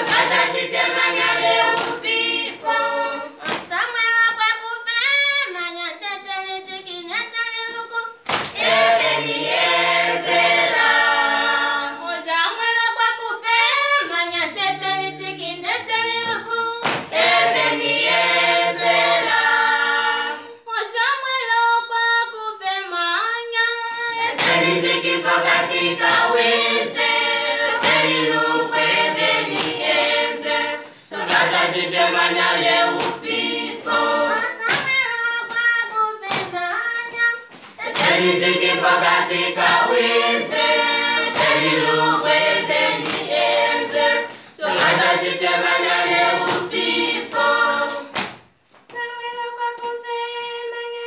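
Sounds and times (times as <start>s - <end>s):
choir singing a cappella: 0.0s - 3.6s, 7.6s - 36.2s, 37.8s - 48.3s.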